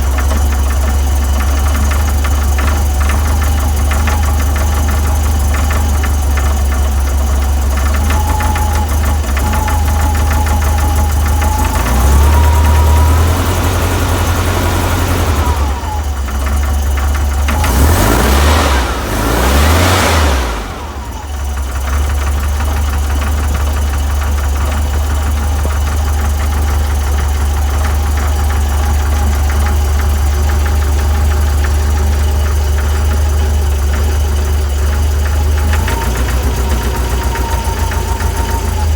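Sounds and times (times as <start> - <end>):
car engine idling with knock: 0.0 - 38.9
engine revving: 0.0 - 38.9.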